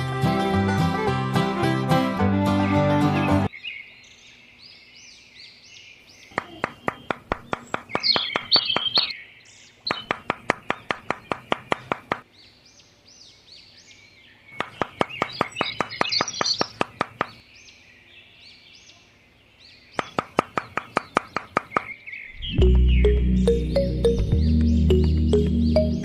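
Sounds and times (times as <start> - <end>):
birds chirping: 3.0 - 26.0.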